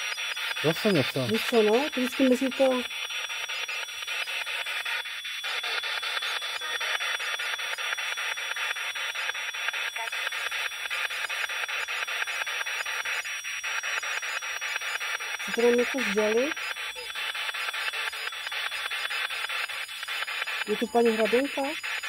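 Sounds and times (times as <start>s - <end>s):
radio hiss: 0.0s - 22.0s.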